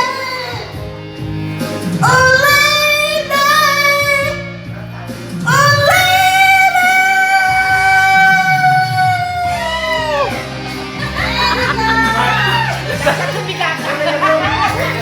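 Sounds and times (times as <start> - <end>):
pop ballad: 0.0 - 15.0.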